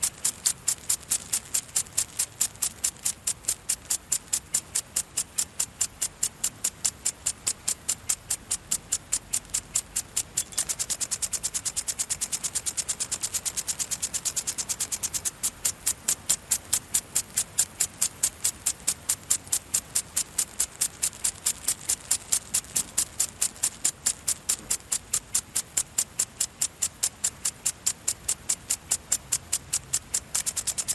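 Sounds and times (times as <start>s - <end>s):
garden sprinkler hissing pulses: 0.0s - 30.9s.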